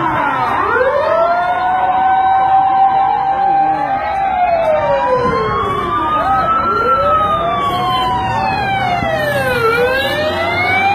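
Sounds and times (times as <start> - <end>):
sirens wailing: 0.0 - 10.9.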